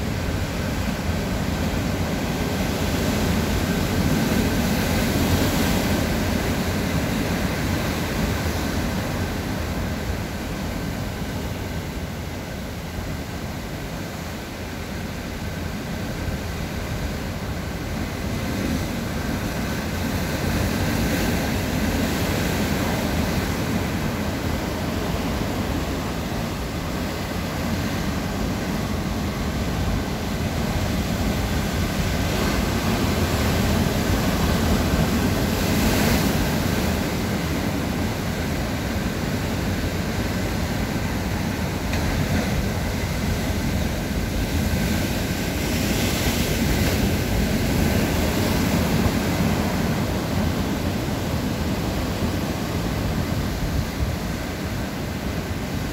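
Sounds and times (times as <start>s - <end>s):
heavy surf breaking over boulders: 0.0s - 55.9s.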